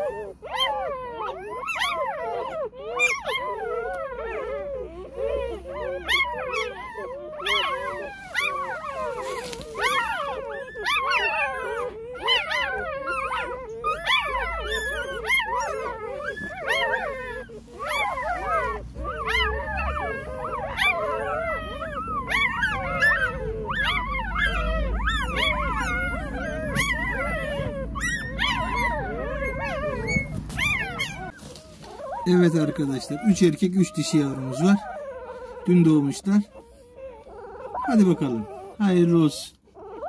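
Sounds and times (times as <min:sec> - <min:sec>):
puppies crying: 0:00.0 - 0:40.0.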